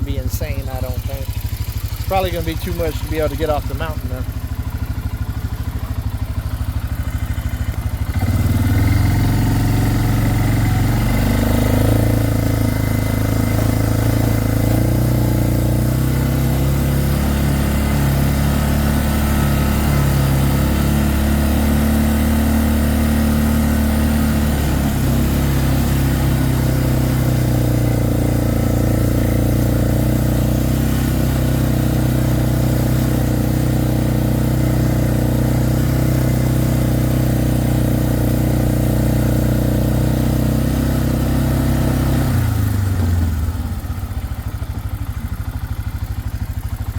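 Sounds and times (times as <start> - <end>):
atv engine running: 0.0 - 46.9.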